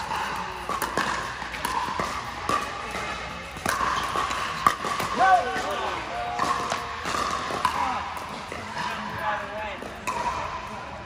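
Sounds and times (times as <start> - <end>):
paddles striking pickleball: 0.0 - 10.9.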